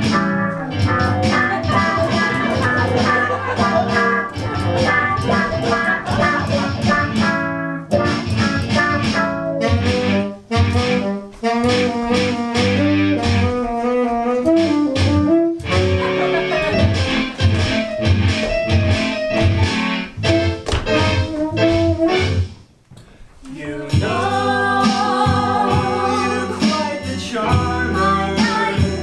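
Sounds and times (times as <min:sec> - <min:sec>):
jazzy brass guitar and bass music: 0:00.0 - 0:22.7, 0:24.0 - 0:29.0.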